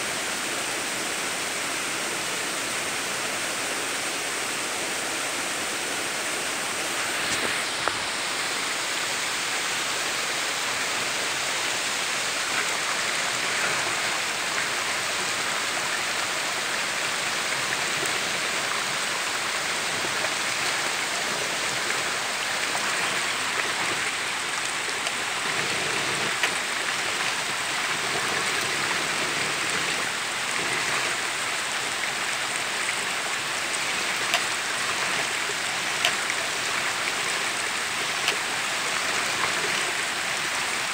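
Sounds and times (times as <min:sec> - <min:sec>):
creek running over stones: 0:00.0 - 0:40.9.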